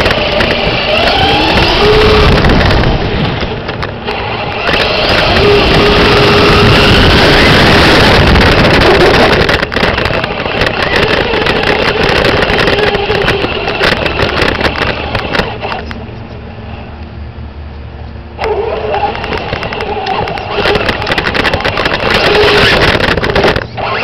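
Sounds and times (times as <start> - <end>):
electric motor whine: 0.0 - 16.0, 18.4 - 24.0
wind and tyre noise: 0.0 - 24.0.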